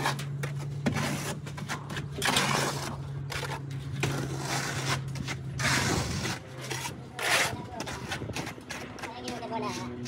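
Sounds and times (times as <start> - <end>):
steady low hum: 0.0 - 10.0
trowel scraping render on wall: 0.0 - 10.0.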